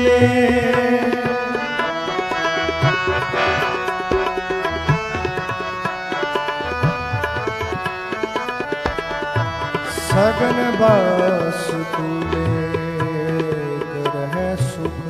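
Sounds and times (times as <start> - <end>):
harmonium melody: 0.0 - 15.0
tabla drumming: 0.0 - 15.0.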